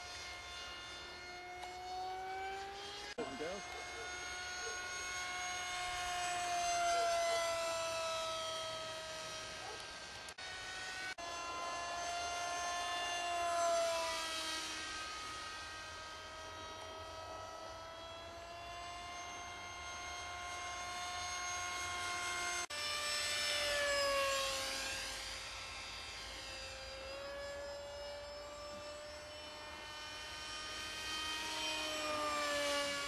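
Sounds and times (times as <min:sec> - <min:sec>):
model jet whining in flight: 0:00.0 - 0:33.0.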